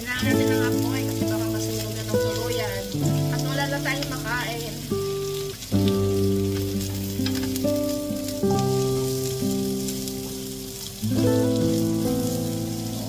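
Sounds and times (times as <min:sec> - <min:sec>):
background music with held chords: 0:00.0 - 0:13.0
onion sizzling in oil: 0:00.0 - 0:13.0.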